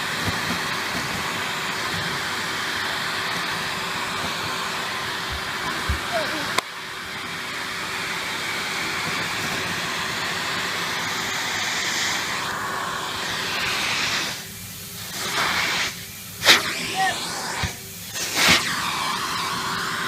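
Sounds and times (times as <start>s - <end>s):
vacuum cleaner hissing: 0.0s - 20.0s.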